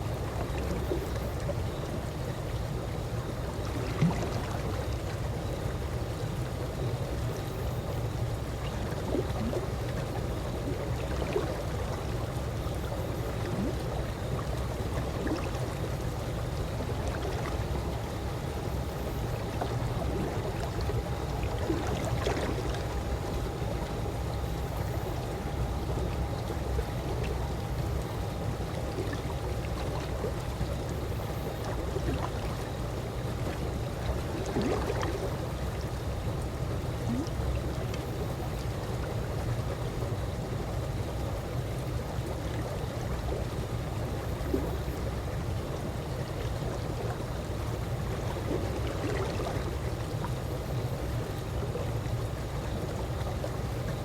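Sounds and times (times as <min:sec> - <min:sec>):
faint steady hum: 0:00.0 - 0:54.0
pool water lapping gently: 0:00.0 - 0:54.0
small water splashes: 0:00.1 - 0:40.6, 0:41.5 - 0:54.0.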